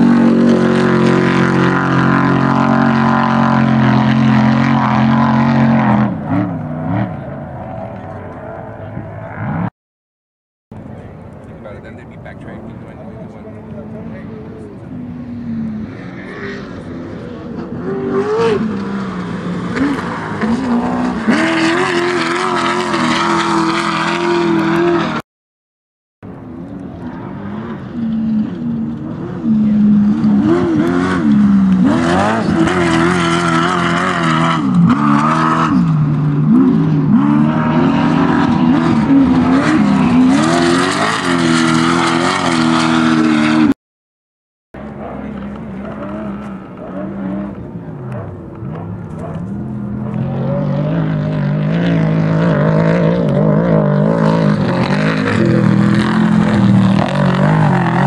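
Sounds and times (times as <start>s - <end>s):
off-road vehicles revving past: 0.0s - 9.7s, 10.8s - 25.2s, 26.3s - 43.8s, 44.8s - 58.0s.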